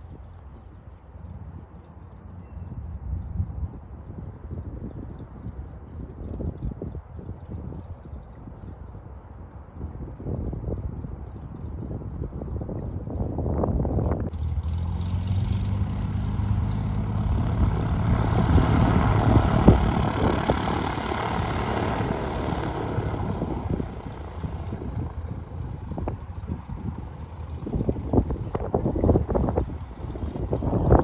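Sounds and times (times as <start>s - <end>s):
propeller plane engine: 0.0s - 31.0s
wind buffeting microphone: 0.0s - 31.0s.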